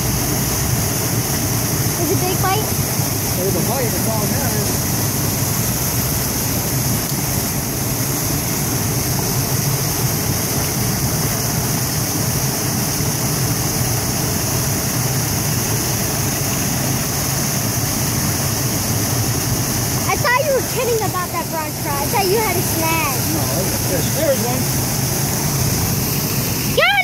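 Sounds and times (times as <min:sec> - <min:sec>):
water rushing over spillway: 0:00.0 - 0:27.0.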